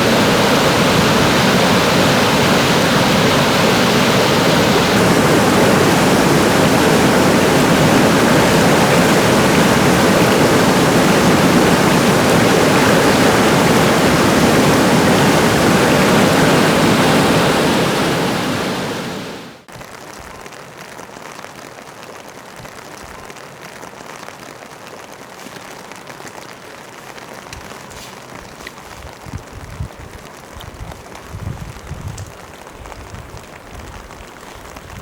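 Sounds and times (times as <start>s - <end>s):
rushing flowing water: 0.0s - 28.9s.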